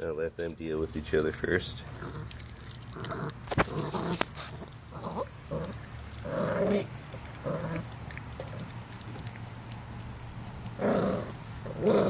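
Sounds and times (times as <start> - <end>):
puppy growling: 1.6 - 12.0.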